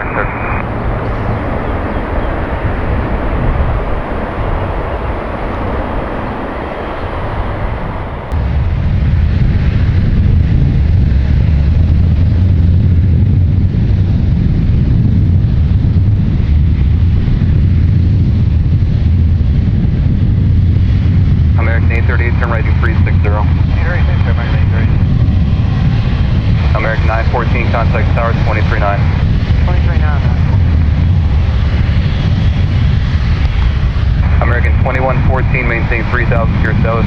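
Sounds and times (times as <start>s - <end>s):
jet engine roar: 0.0s - 37.0s.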